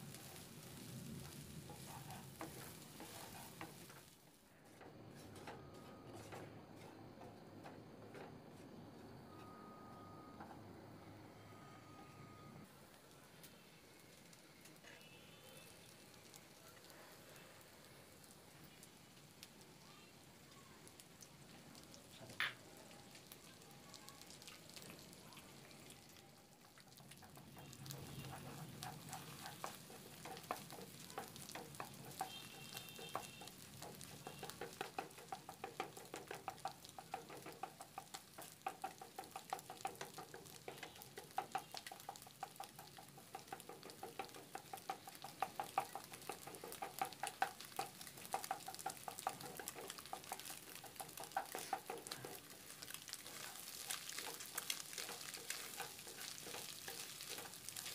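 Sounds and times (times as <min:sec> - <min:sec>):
food sizzling in a frying pan: 0:00.0 - 0:57.9.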